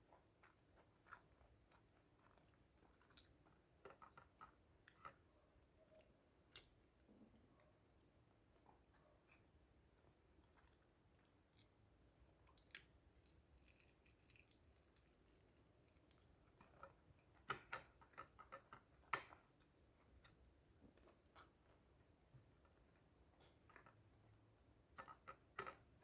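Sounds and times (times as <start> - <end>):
chewing fried chicken: 0.0 - 25.7.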